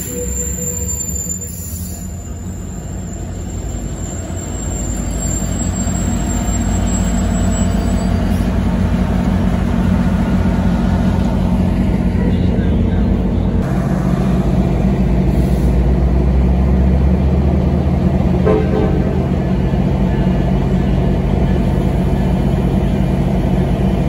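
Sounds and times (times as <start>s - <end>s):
diesel locomotive engine: 0.0s - 24.0s
train wheels rumbling on rail: 0.0s - 24.0s.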